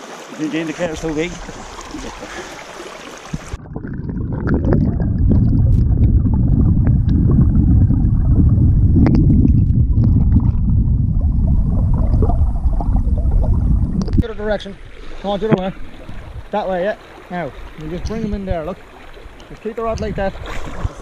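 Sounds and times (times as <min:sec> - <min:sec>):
underwater rumble and gurgle: 0:00.8 - 0:21.0.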